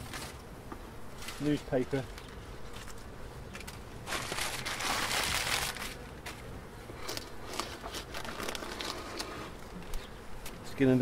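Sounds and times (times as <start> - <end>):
newspaper crinkling and scraping: 1.2 - 10.0.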